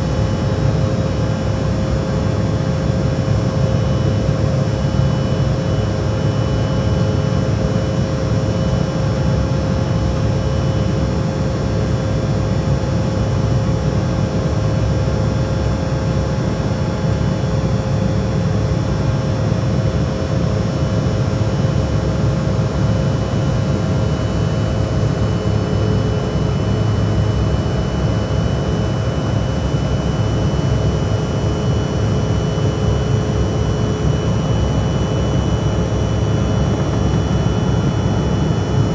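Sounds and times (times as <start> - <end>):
jet engines low rumble: 0.0 - 38.9.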